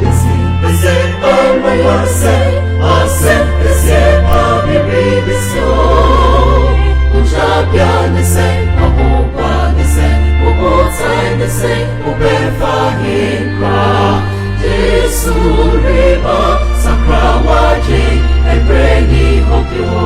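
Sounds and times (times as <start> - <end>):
choir singing gospel music: 0.0 - 20.0
deep sustained bass line: 0.0 - 20.0.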